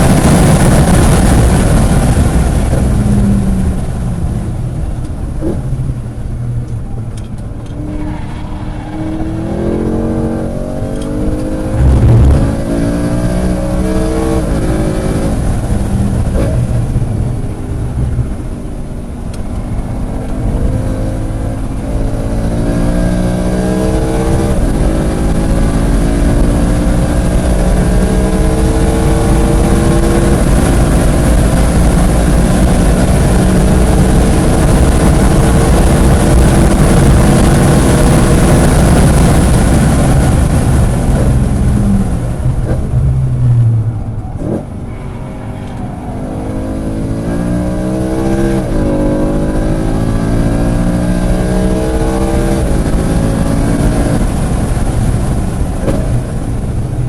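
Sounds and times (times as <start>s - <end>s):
loud low rumble: 0.0s - 57.0s
sports car engine revving: 7.4s - 18.2s, 19.6s - 56.6s.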